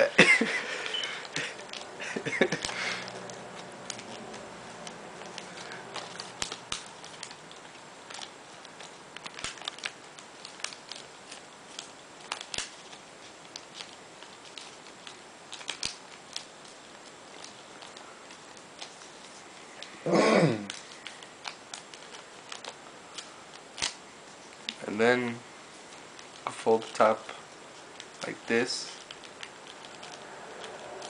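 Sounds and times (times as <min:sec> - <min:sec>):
paper being folded and creased: 0:00.7 - 0:20.0, 0:20.6 - 0:31.0.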